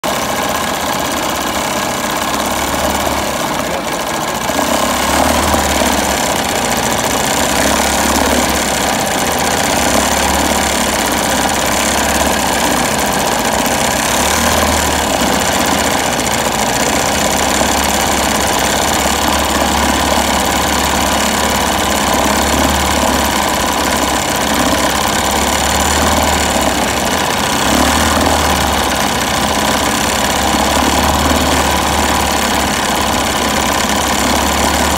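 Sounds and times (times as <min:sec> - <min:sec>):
two-stroke outboard engine running: 0:00.0 - 0:34.9.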